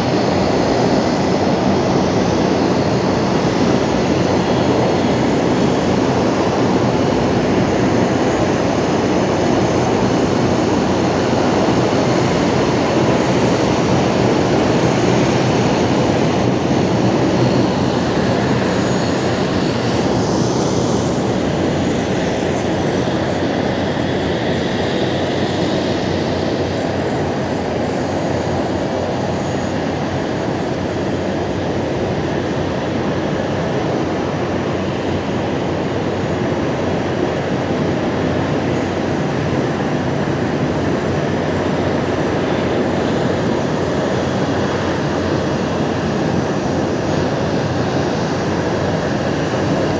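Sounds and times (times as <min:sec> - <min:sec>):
turboprop engines drone: 0:00.0 - 0:49.9.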